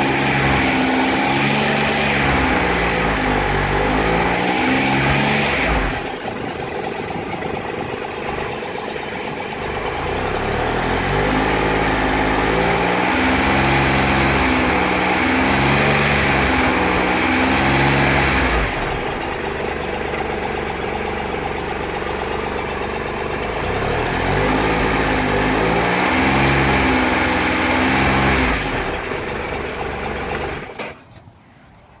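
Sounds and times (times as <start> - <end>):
motorcycle engine revving: 0.0 - 30.8.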